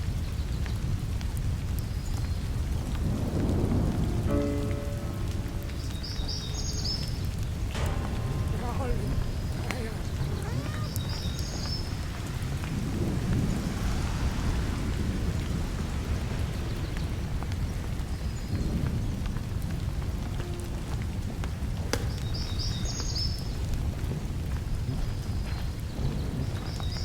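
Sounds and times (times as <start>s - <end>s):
low rumble of thunder: 0.0s - 27.0s
steady rain: 0.0s - 27.0s.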